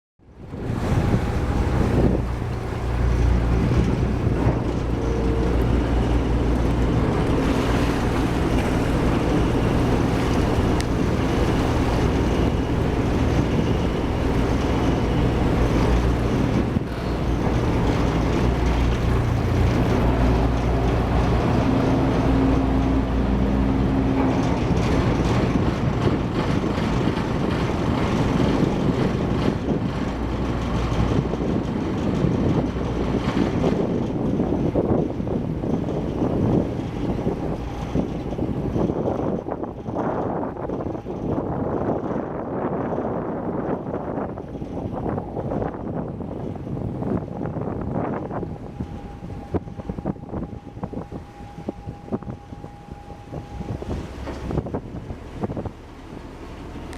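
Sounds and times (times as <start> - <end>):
boat engines droning: 0.2 - 56.9.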